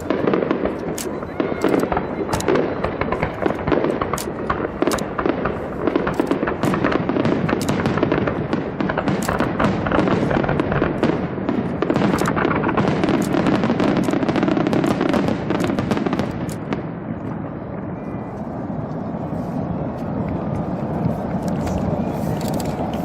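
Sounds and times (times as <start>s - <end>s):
fireworks crackling and popping: 0.0s - 23.0s
rumble of firework bursts: 0.0s - 23.0s.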